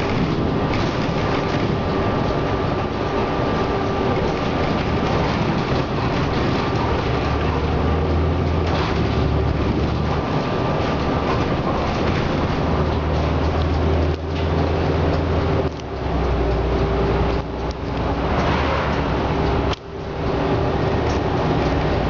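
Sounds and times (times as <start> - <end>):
bus engine and road noise: 0.0 - 22.0.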